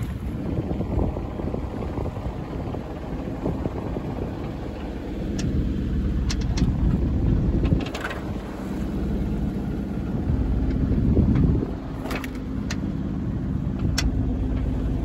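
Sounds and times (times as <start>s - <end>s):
low rumble aboard boat: 0.0s - 15.0s.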